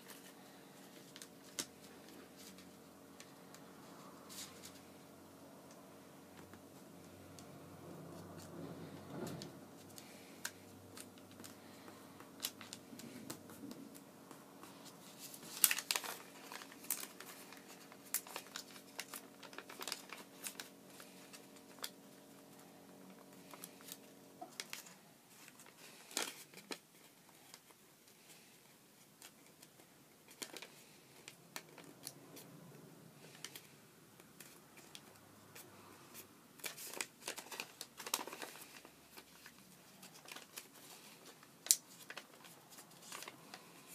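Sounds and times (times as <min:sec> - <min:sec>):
sharp paper crackles: 0:00.0 - 0:04.9, 0:08.1 - 0:28.5, 0:29.2 - 0:32.4, 0:34.3 - 0:43.9
paper rustling and crinkling: 0:00.0 - 0:05.2, 0:06.3 - 0:32.5, 0:33.2 - 0:43.9.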